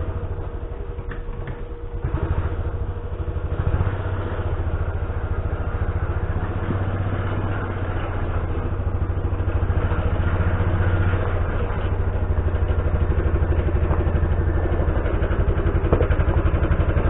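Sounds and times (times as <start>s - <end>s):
utility vehicle engine pulsing: 0.0s - 17.0s.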